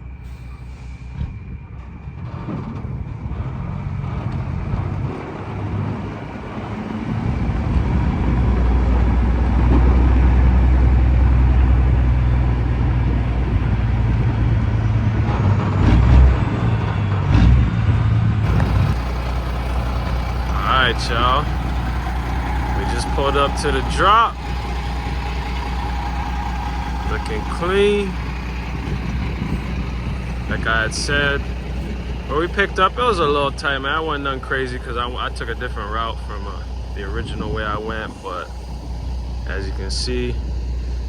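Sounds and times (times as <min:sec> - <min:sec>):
truck diesel engine running: 0:00.0 - 0:41.0.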